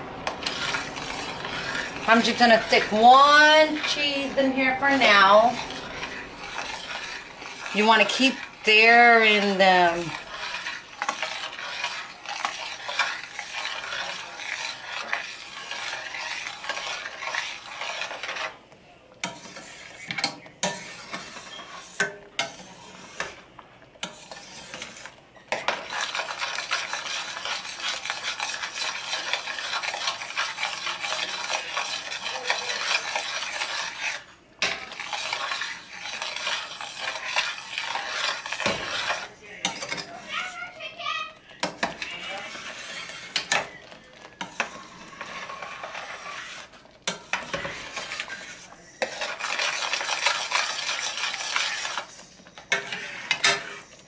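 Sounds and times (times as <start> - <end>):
metal spoon scraping a pan: 0.0 - 54.0.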